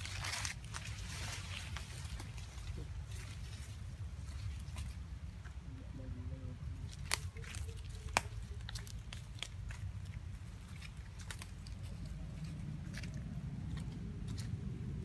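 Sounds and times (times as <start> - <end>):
dry leaves crackling: 0.0 - 15.0
low steady rumble: 0.0 - 15.0.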